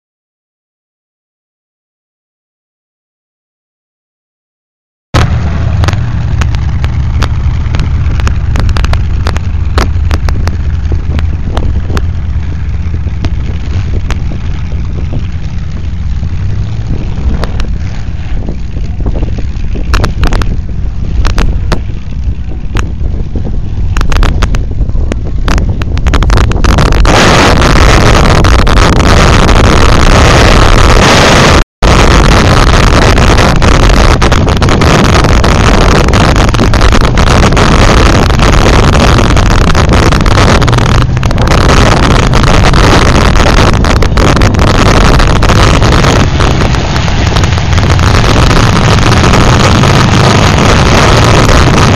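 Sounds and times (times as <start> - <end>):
car engines revving: 5.2 - 51.9
wind buffeting the microphone: 5.2 - 51.9.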